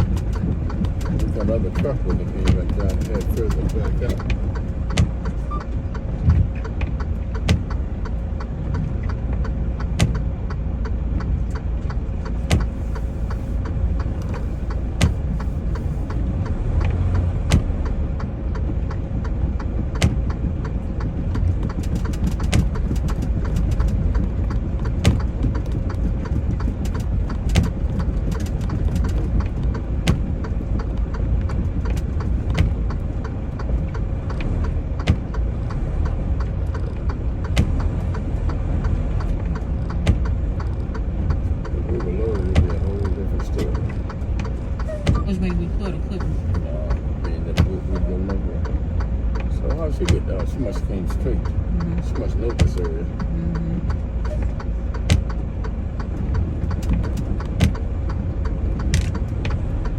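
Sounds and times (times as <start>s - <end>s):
diesel engine rumbling: 0.0s - 59.9s
sharp clicks: 0.0s - 59.9s.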